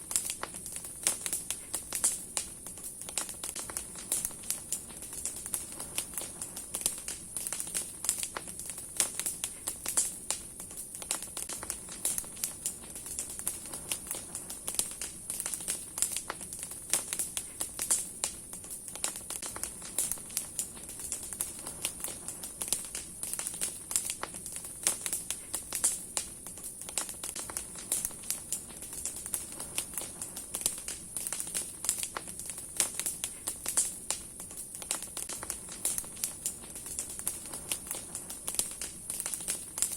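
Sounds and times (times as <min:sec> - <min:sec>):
bonfire crackling: 0:00.0 - 0:39.9
sharp pops and snaps: 0:00.0 - 0:39.9
steady high hiss: 0:00.0 - 0:39.9.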